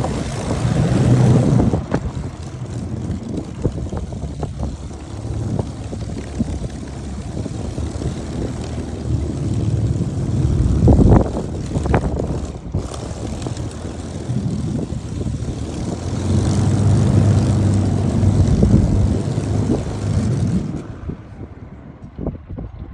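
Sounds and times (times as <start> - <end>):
piston aircraft engine running: 0.0 - 22.9.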